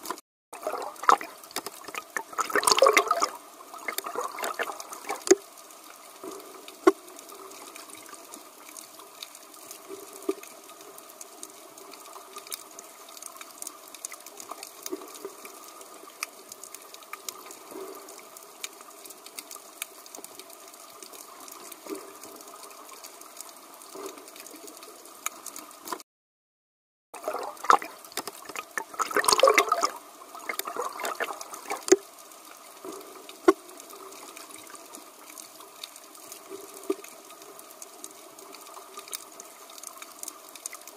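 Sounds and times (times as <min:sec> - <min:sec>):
water gurgling: 0:00.0 - 0:20.2, 0:27.2 - 0:40.9.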